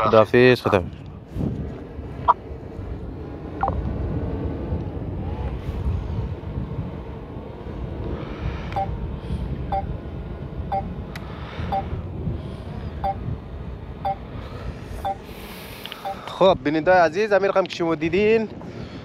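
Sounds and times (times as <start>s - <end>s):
traffic noise: 0.0s - 16.6s
wind: 0.0s - 19.0s.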